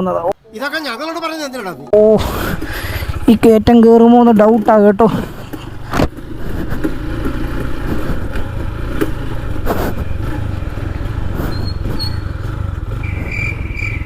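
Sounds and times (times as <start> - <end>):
motorcycle engine running: 2.1 - 14.0.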